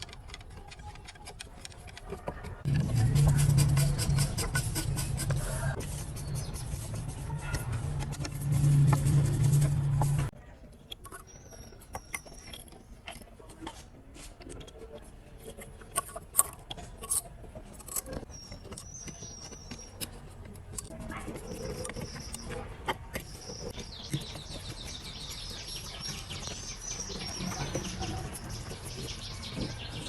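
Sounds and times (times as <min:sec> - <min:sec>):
parts clicking and tapping: 0:00.0 - 0:25.0.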